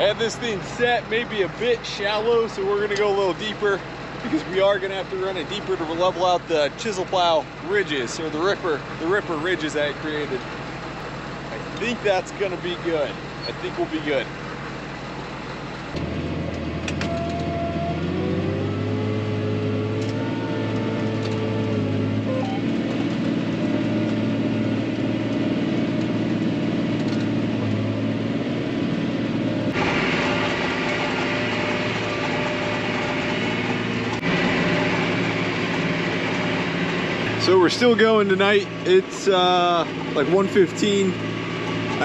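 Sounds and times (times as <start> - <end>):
tractor engine under load: 0.0 - 19.0, 19.6 - 42.0.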